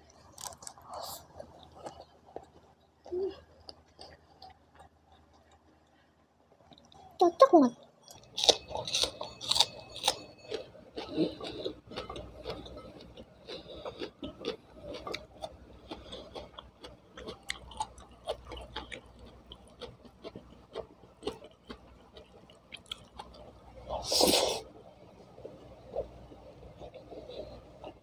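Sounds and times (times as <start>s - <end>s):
chewing food: 0.0s - 7.2s, 7.8s - 28.0s.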